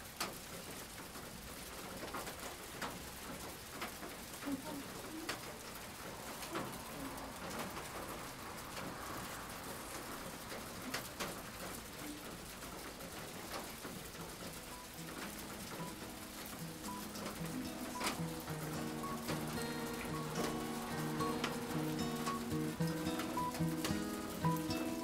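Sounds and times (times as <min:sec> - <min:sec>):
rain falling steadily: 0:00.0 - 0:25.0
raindrops ticking on a surface: 0:00.0 - 0:25.0.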